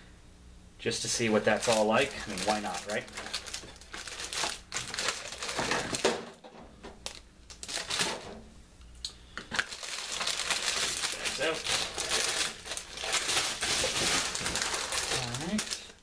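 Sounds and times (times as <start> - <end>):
plastic bags crinkling: 0.9 - 8.4, 9.5 - 16.0.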